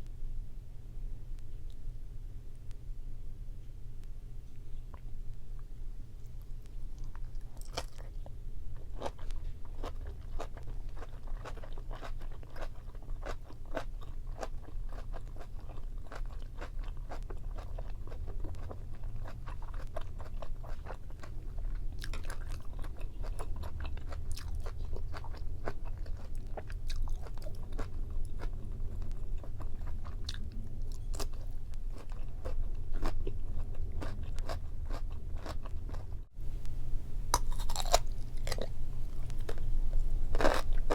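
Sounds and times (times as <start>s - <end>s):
steady low hum: 0.0s - 40.9s
chewing with crisp crunches: 4.9s - 40.9s.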